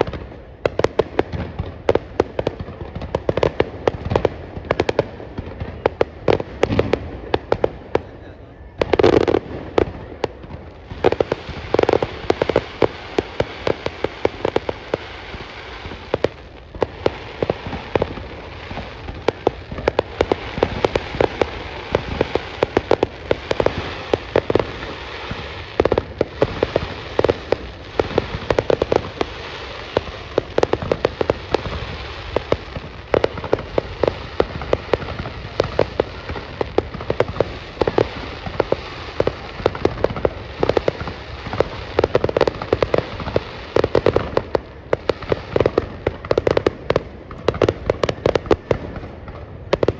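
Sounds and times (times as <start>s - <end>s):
crackling hiss: 0.0s - 49.9s
fireworks popping and banging: 0.0s - 49.9s.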